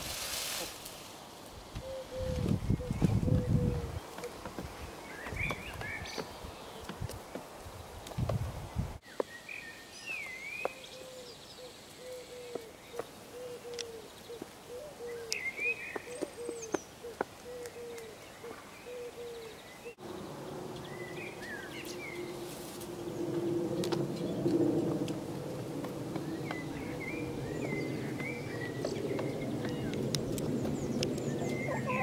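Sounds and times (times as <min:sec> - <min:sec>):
birds chirping and twittering: 0:01.7 - 0:08.2, 0:09.0 - 0:32.0.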